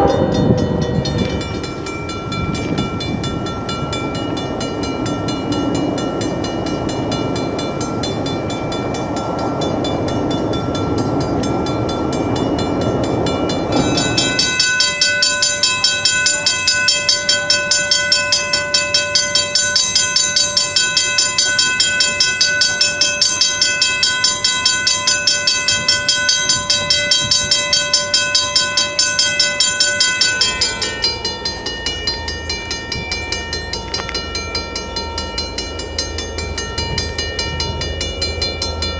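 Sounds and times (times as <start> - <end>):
passing train rumble: 0.0 - 38.9
railroad crossing bells ringing: 0.0 - 38.9.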